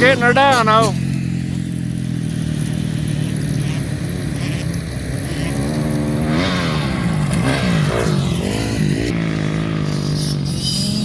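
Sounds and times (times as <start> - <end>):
dirt bike engines droning: 0.0 - 11.0
dirt bike revving: 0.0 - 11.0.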